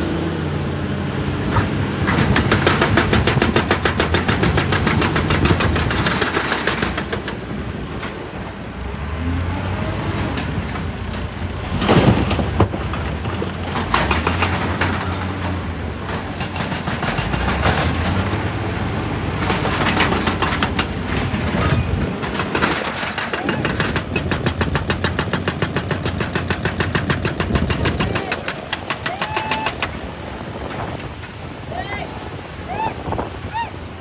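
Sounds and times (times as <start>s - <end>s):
excavator engine running: 0.0s - 34.0s
rock and steel crunching: 0.1s - 31.6s
fast even clatter: 1.5s - 8.5s, 10.2s - 31.4s.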